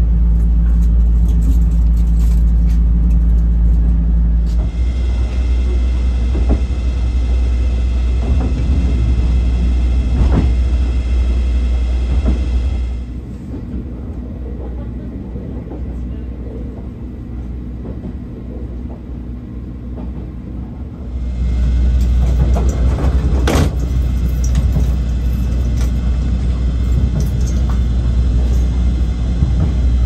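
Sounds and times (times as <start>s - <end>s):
train coach rumbling on rails: 0.0s - 30.0s.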